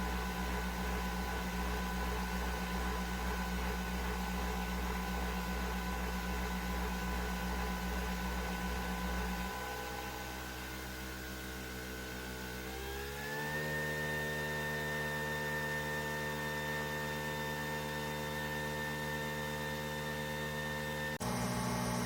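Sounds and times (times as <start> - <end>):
coffee machine motor whir: 0.0 - 11.7, 12.3 - 22.0.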